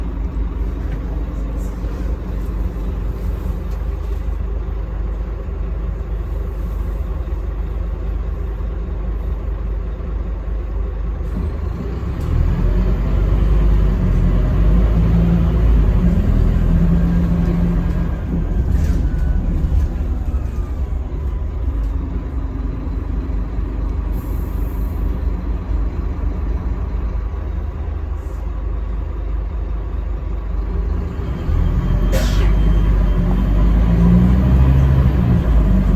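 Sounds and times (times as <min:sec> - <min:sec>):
bus diesel engine rumbling: 0:00.0 - 0:35.9.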